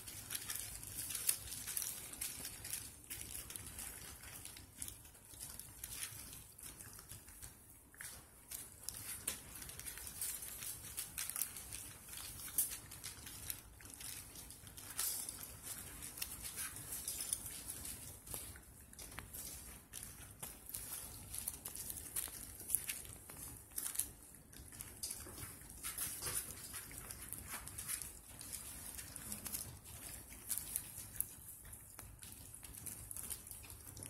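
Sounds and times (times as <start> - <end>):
puppies rustling on paper: 0.0 - 34.0.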